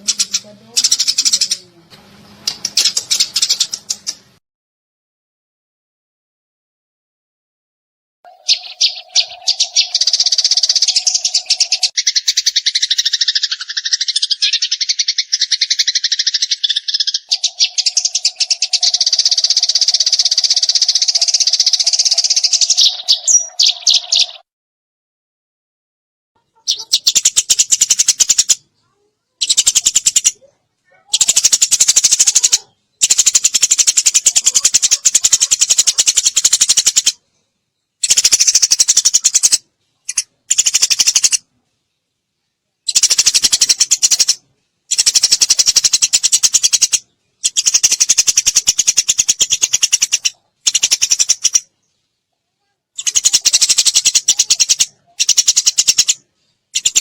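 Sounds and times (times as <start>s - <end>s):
sparrow chattering chirps: 0.0s - 1.7s, 2.4s - 4.3s, 8.3s - 24.4s, 26.4s - 37.2s, 38.0s - 41.5s, 42.8s - 51.9s, 52.6s - 57.0s.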